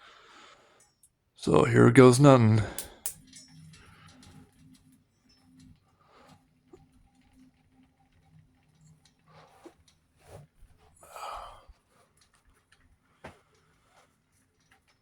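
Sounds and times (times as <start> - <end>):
small fan humming: 0.0 - 14.1.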